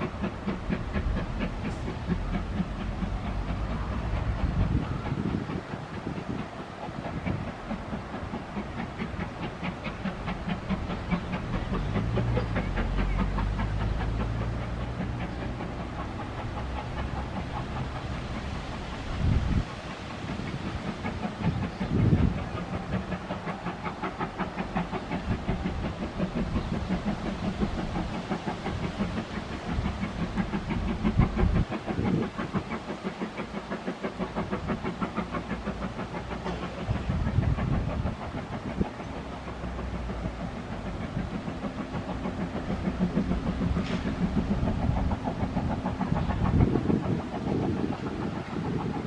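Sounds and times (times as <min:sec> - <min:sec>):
locomotive rhythmic beat: 0:00.0 - 0:49.0.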